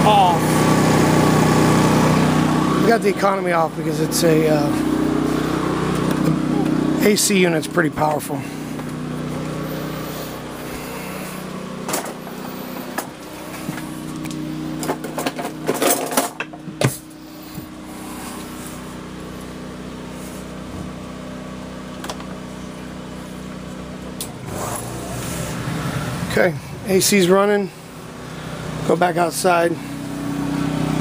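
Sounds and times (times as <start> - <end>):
air conditioner running: 0.0 - 31.0
generator humming: 0.0 - 31.0.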